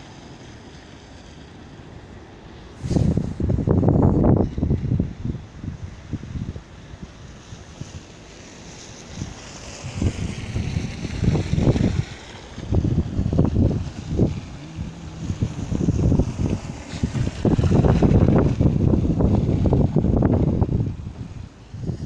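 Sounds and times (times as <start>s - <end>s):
car tyres hissing on slushy road: 0.0s - 22.0s
wind buffeting microphone: 2.7s - 22.0s.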